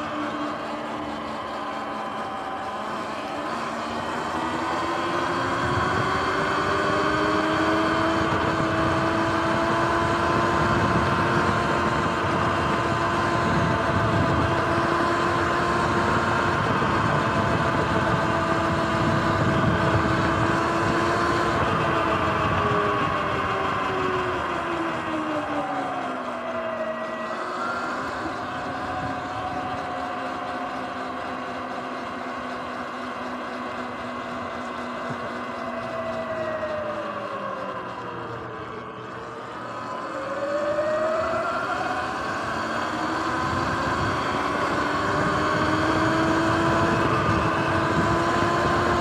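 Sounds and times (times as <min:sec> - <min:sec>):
electric motorbike drivetrain whine: 0:00.0 - 0:49.0
wind and tyre noise: 0:00.0 - 0:49.0.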